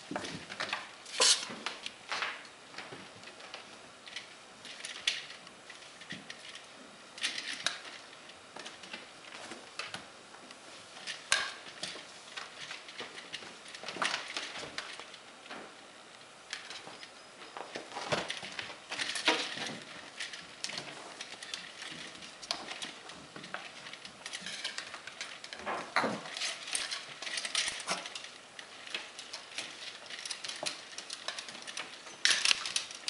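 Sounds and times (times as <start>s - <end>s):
kittens tapping and scrabbling: 0.0s - 33.0s.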